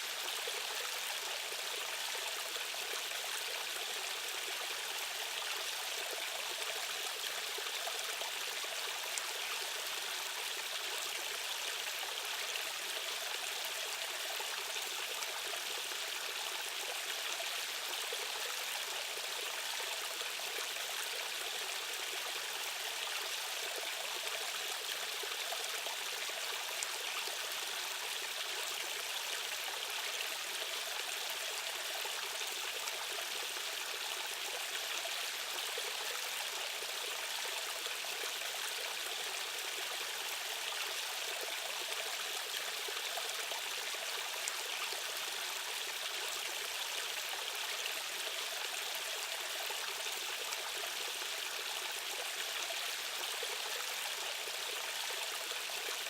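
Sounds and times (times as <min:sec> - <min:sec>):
stream water rushing and trickling: 0:00.0 - 0:56.0.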